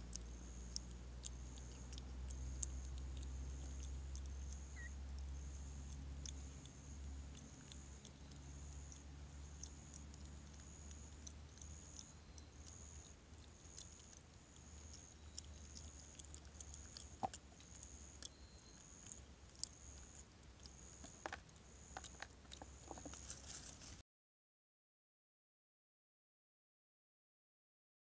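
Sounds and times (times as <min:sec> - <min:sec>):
low steady hum: 0:00.0 - 0:24.0
monkey chewing food: 0:00.0 - 0:24.0
faint high-pitched chirp: 0:00.1 - 0:23.1.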